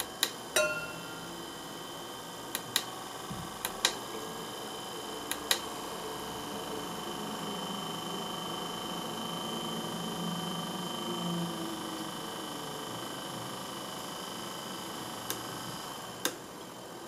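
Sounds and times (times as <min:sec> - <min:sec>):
small electric motor running: 0:01.1 - 0:16.2.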